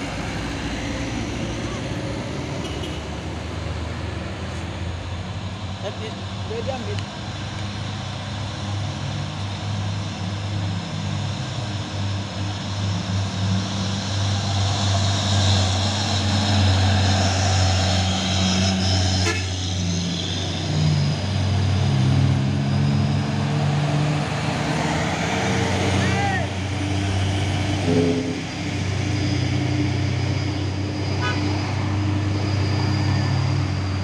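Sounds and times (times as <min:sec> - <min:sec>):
diesel trucks driving past: 0:00.0 - 0:34.0.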